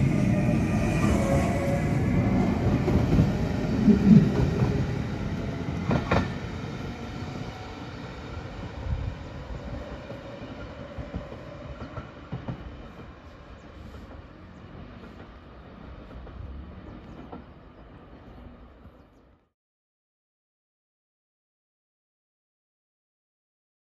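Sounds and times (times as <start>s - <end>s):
train rumble on track: 0.0s - 19.5s.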